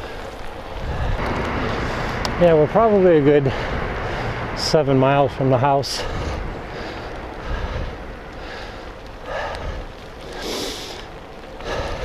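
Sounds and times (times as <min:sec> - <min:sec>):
wind noise on microphone: 0:00.0 - 0:05.4, 0:06.0 - 0:12.0
tyre rumble on wet road: 0:00.0 - 0:12.0.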